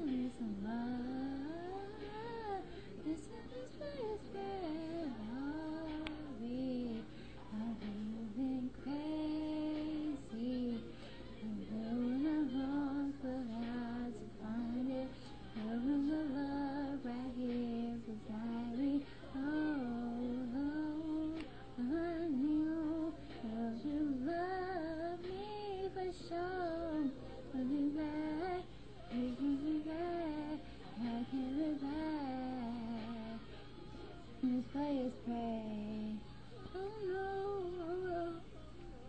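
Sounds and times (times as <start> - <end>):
low steady hum: 0.0 - 39.0
woman singing: 0.0 - 39.0.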